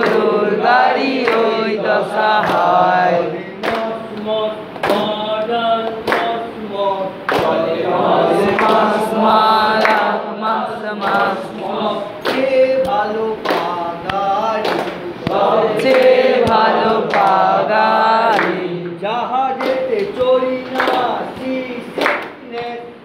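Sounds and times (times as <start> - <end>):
group of voices singing: 0.0 - 23.0.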